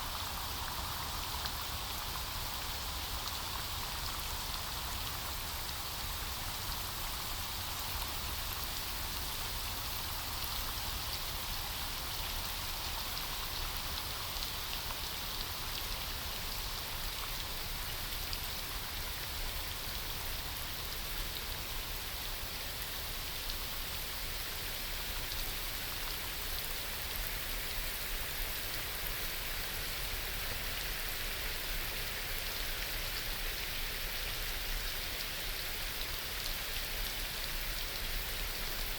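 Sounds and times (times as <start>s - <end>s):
rain falling on foliage: 0.0s - 38.9s.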